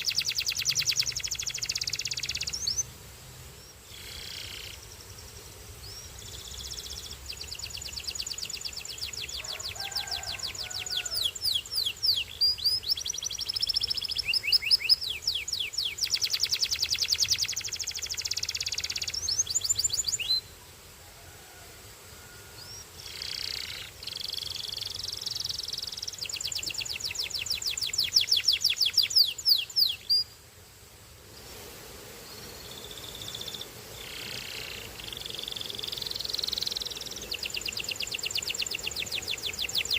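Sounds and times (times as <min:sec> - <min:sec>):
canary singing trills: 0:00.0 - 0:02.9, 0:05.8 - 0:20.5, 0:22.6 - 0:30.3, 0:32.7 - 0:39.9.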